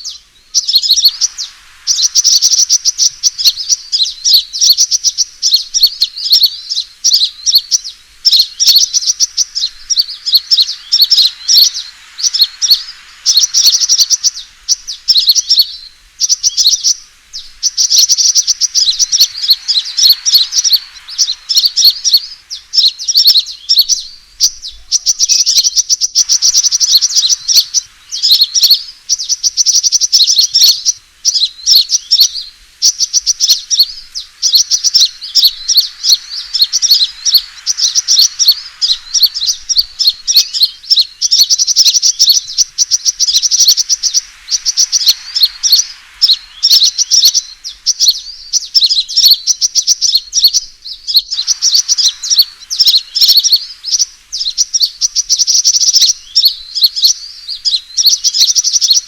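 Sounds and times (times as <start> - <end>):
bird chirping rapidly: 0.0 - 59.0.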